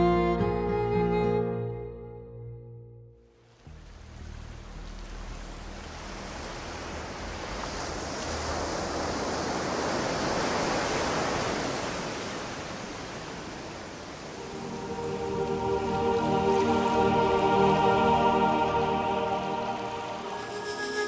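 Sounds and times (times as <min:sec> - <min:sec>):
ocean waves: 0:03.3 - 0:21.0.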